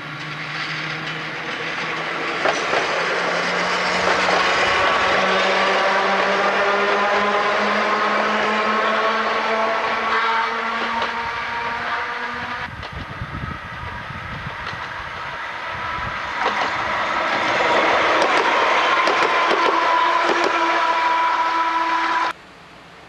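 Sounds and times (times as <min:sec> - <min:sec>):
train wheels clicking over rail joints: 0:00.0 - 0:21.0
train running rumble: 0:00.0 - 0:22.4.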